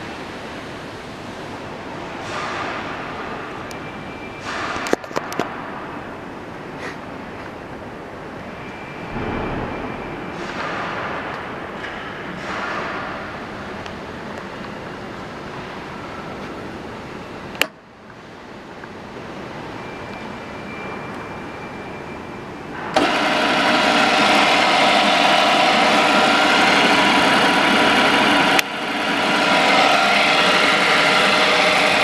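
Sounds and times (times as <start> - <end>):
steady background noise: 0.0 - 32.0.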